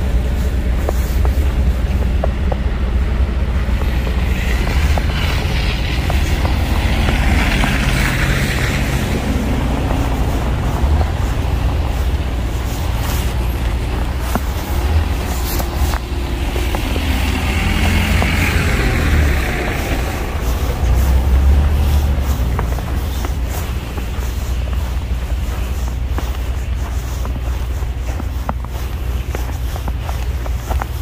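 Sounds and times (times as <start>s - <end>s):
road traffic rumble: 0.0s - 31.0s
vehicle tyre hiss: 0.0s - 31.0s.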